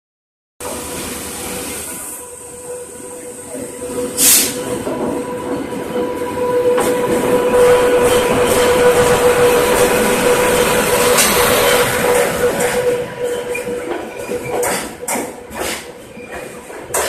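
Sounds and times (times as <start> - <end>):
train wheels humming on rails: 0.6 - 17.0.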